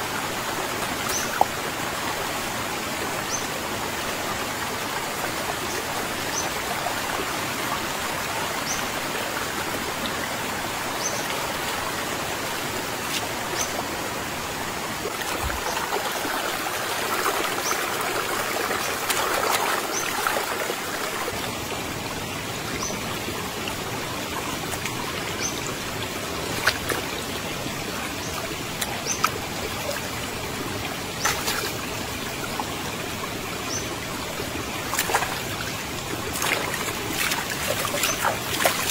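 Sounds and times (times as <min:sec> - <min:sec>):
flowing stream: 0:00.0 - 0:38.9.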